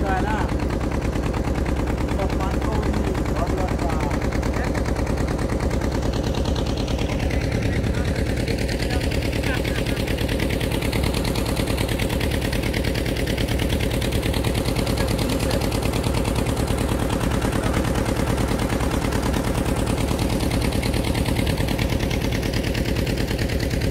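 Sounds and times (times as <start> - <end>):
motorboat engine running: 0.0 - 23.9.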